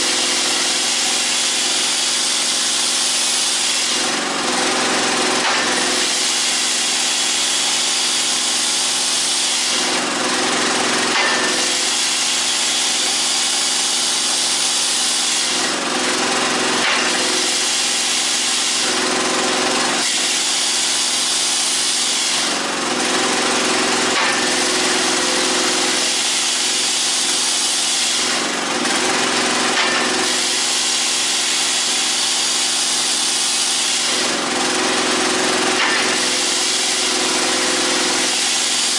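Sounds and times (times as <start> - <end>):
hydraulic drive running: 0.0 - 38.9.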